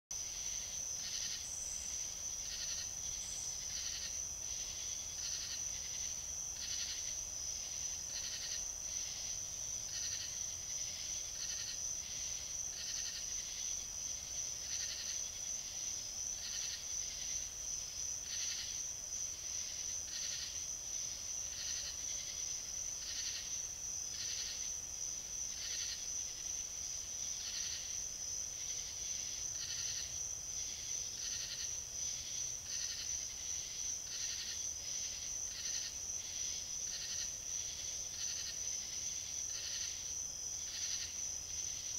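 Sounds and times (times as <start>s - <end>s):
high-pitched insect trill: 0.2s - 41.9s.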